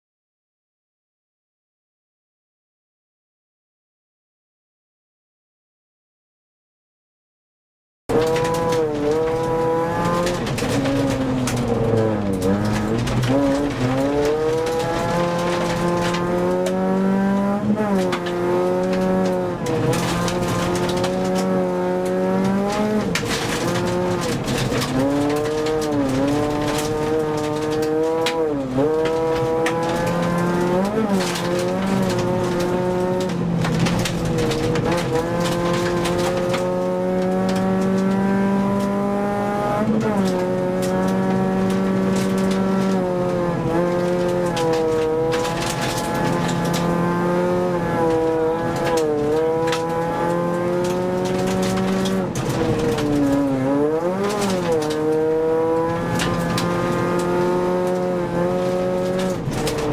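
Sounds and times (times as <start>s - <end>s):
gravel clattering against car: 8.1s - 59.9s
rally car engine revving: 8.1s - 59.9s.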